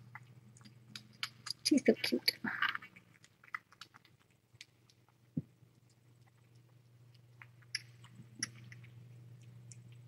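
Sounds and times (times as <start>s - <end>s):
kitten mouth noises: 0.0s - 10.0s
low electrical hum: 0.0s - 10.0s.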